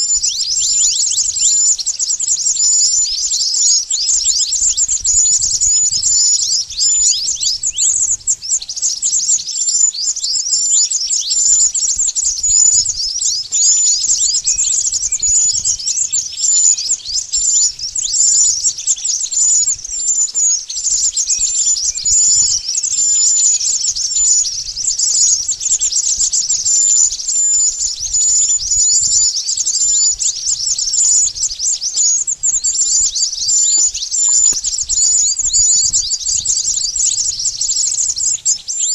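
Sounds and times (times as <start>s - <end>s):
rapid high-pitched bird chirps: 0.0s - 38.9s.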